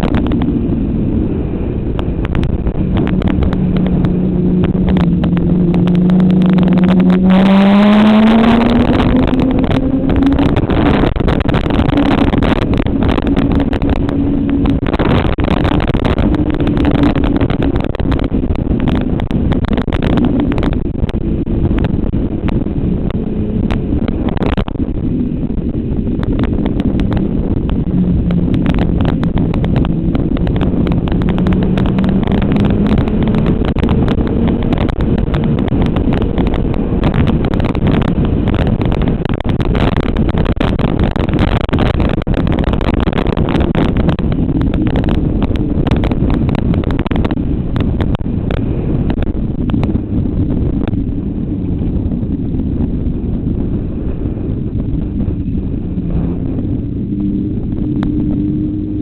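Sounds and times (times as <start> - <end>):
motorcycle engine at speed: 0.0 - 59.0
wind on microphone: 0.0 - 59.0.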